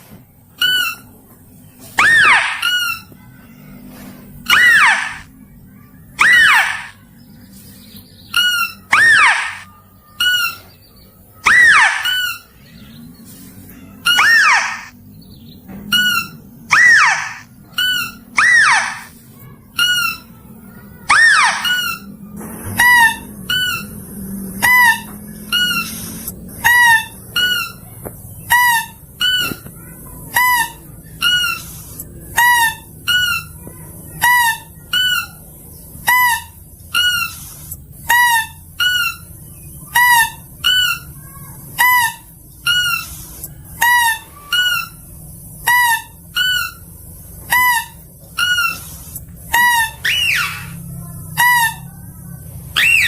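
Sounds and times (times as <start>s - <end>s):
high honking lure calls: 2.0s - 3.6s, 4.4s - 5.3s, 6.2s - 7.0s, 8.3s - 10.7s, 11.4s - 13.0s, 13.7s - 15.0s, 15.9s - 35.4s, 36.0s - 52.1s, 52.7s - 53.0s.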